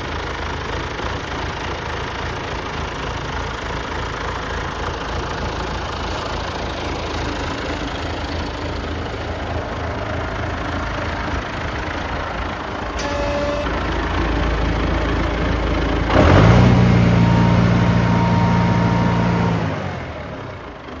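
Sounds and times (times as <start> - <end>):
tractor engine idling and revving: 0.0 - 21.0.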